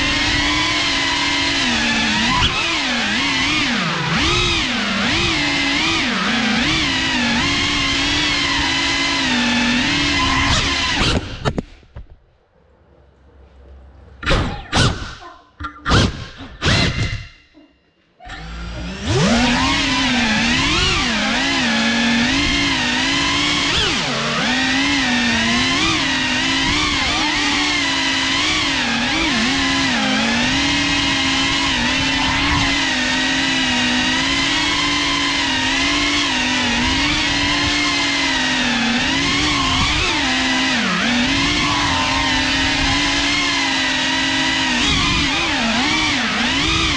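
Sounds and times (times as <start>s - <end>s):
drone motors whining: 0.0s - 11.8s, 18.2s - 46.9s.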